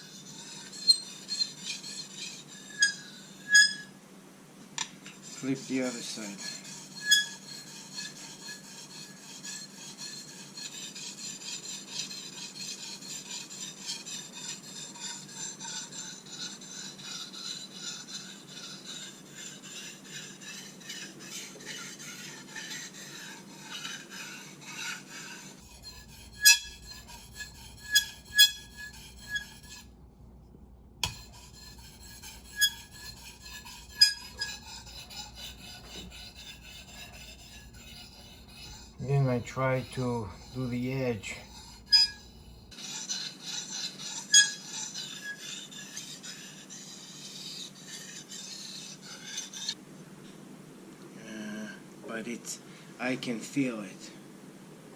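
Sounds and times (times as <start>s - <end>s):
knife scraping on whetstone: 0.0s - 4.0s, 4.8s - 30.0s, 31.0s - 49.8s.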